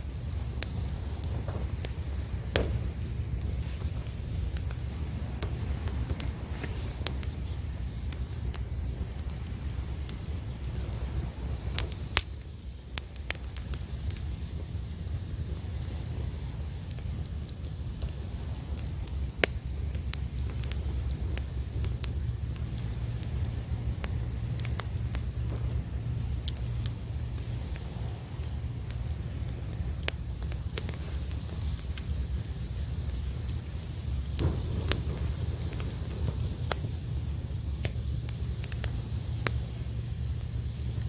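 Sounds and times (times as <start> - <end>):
low rumble of surf: 0.0 - 41.0
wood fire crackling and popping: 0.0 - 41.0.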